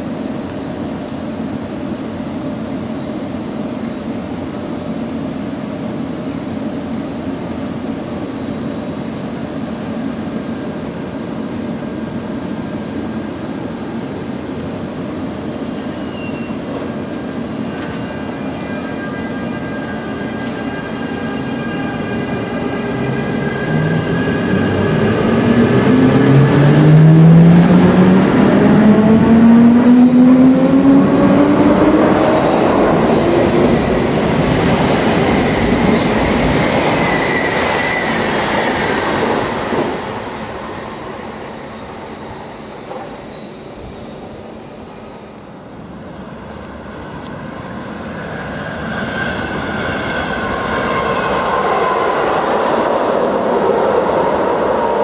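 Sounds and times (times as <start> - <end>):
electric train rumbling on rails: 0.0 - 55.0.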